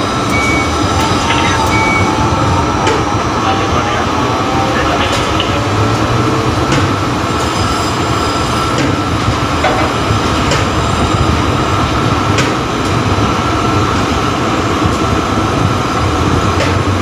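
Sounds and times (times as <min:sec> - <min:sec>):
crane machinery whine and hum: 0:00.0 - 0:17.0.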